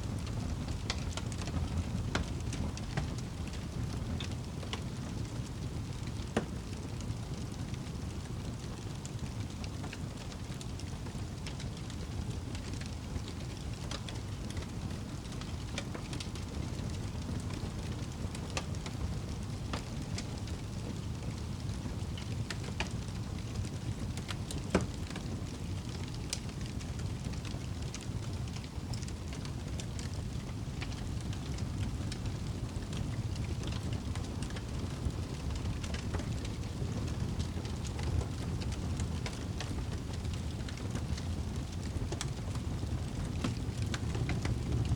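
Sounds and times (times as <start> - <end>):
campfire crackling and popping: 0.1 - 44.9.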